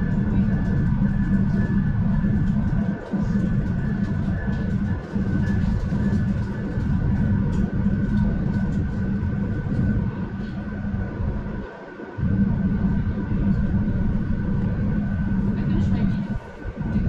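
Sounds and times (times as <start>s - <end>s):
electric train rumble: 0.0s - 17.0s
high whining tones: 0.0s - 17.0s.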